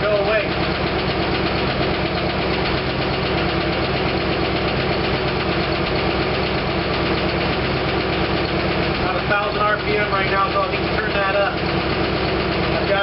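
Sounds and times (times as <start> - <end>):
car engine idling: 0.0 - 13.0
engine lifter ticking: 0.0 - 13.0.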